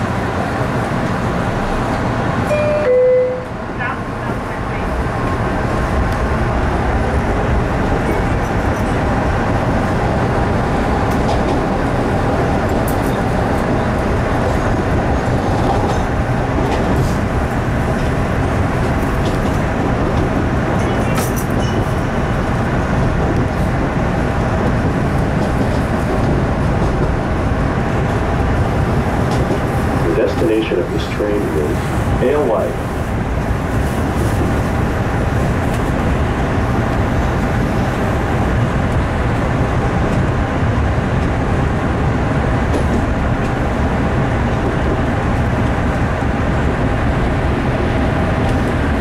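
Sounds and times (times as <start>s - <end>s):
subway car wheels rumbling: 0.0s - 49.0s.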